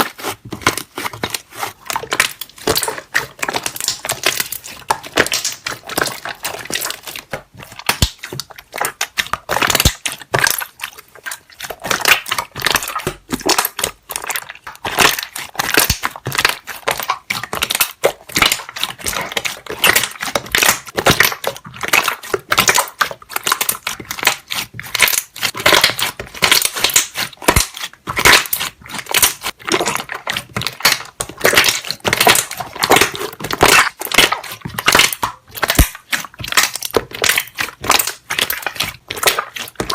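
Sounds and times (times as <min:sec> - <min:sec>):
slime squelching and popping: 0:00.0 - 0:39.9.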